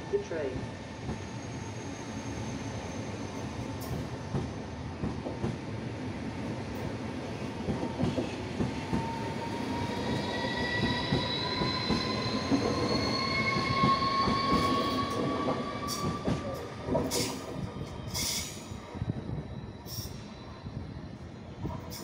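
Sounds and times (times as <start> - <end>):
electric train rumble and whine: 0.0 - 22.0.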